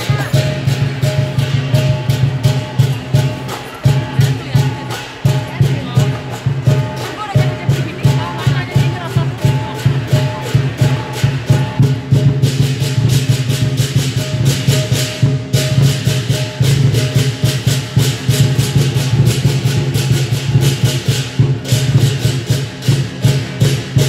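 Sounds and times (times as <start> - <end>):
big drum beating: 0.0 - 24.0
cymbals clashing: 0.0 - 24.0.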